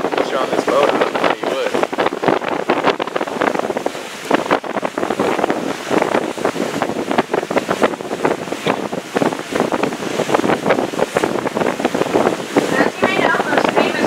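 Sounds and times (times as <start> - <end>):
water splashing: 0.0 - 14.0
wind buffeting microphone: 0.0 - 14.0.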